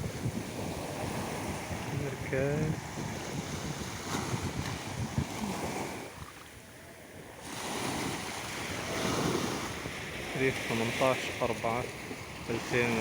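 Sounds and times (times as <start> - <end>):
small waves washing in: 0.0 - 13.0
wind buffeting microphone: 0.0 - 13.0.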